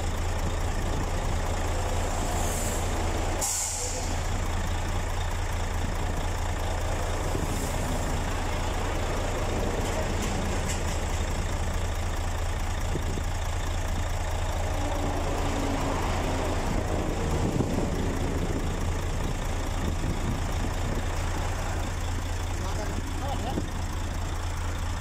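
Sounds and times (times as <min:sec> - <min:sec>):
highway traffic rushing: 0:00.0 - 0:25.0
large truck passing: 0:00.0 - 0:25.0
truck engine idling: 0:00.0 - 0:25.0.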